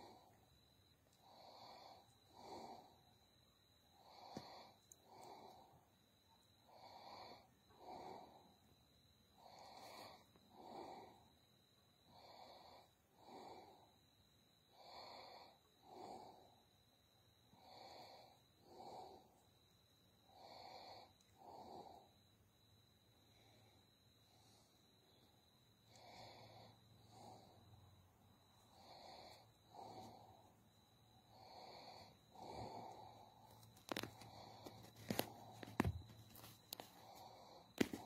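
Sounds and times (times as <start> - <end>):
slow breathing: 0.0 - 38.0.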